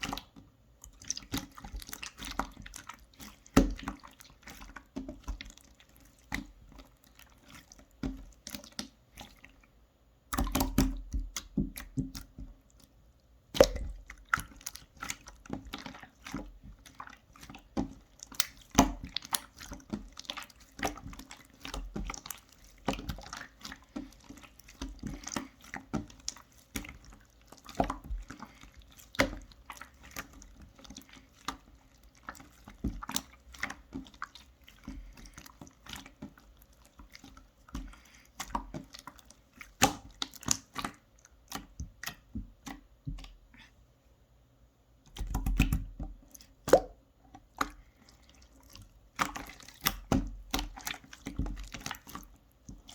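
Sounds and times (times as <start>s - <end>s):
slime squelching by hand: 0.0s - 43.9s, 45.0s - 52.9s.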